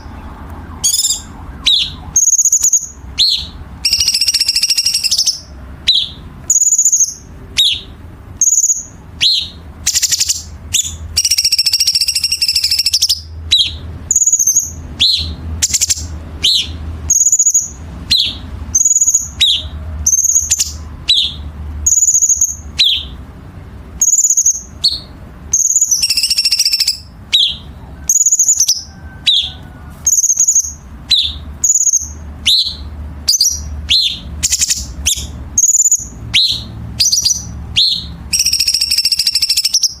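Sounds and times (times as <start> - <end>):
songbird whistling: 0.0 - 23.2, 24.0 - 40.0.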